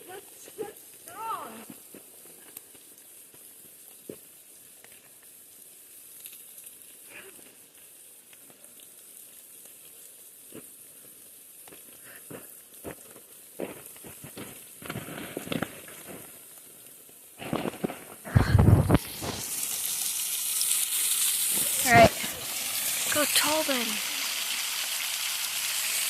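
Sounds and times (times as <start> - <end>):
falling water hiss: 0.0 - 26.0.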